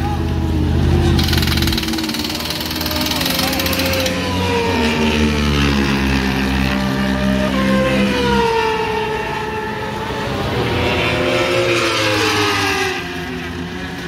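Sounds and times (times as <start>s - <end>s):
racing motorcycles passing by: 0.5s - 14.0s.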